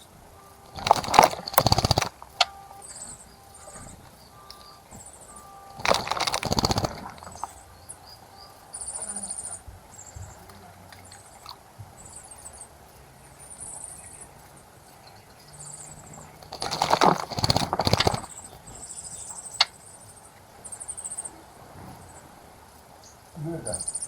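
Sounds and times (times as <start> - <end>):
bird splashing in water: 0.0 - 23.7
small birds chirping: 0.0 - 24.0.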